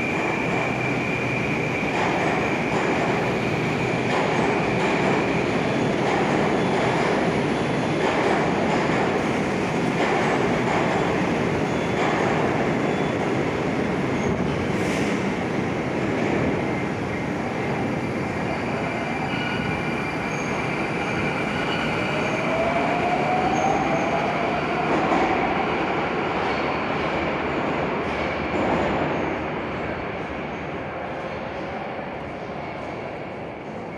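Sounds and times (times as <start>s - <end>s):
metro train rumbling: 0.0s - 33.9s.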